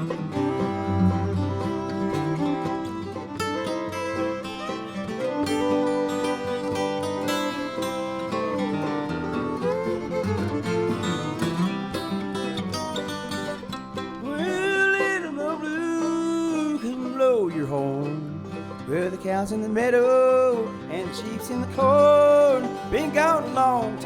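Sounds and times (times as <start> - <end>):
bluegrass band rhythm backing: 0.0 - 14.9, 15.8 - 24.0
acoustic guitar picking lead: 0.0 - 24.0.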